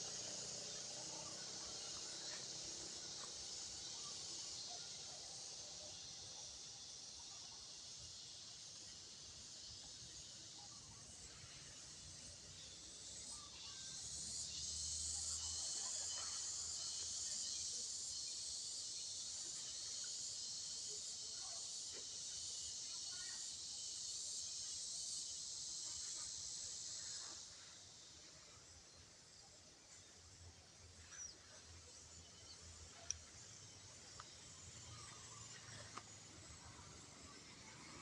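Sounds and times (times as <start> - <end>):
faint chirps: 0.0 - 38.0.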